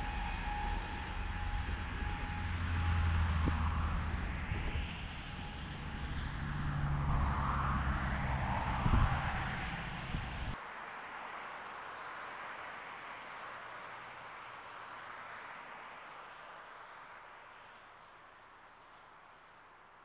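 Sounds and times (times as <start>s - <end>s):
electric train approaching: 0.0s - 18.7s
distant road traffic: 0.0s - 20.0s.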